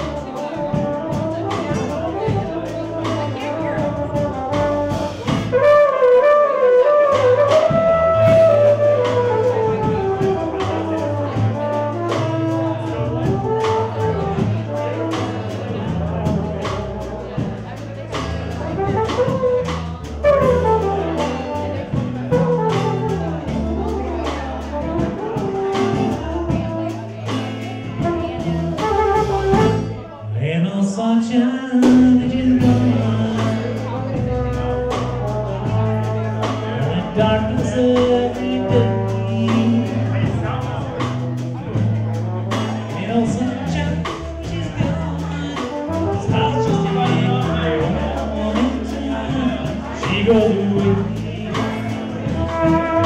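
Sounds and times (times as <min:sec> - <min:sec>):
brass horn melody: 0:00.0 - 0:17.9, 0:18.5 - 0:30.1, 0:32.0 - 0:53.0
trumpet: 0:00.0 - 0:30.3, 0:31.3 - 0:53.0
acoustic guitar: 0:00.0 - 0:53.0
bass: 0:00.0 - 0:53.0
drums: 0:00.0 - 0:53.0.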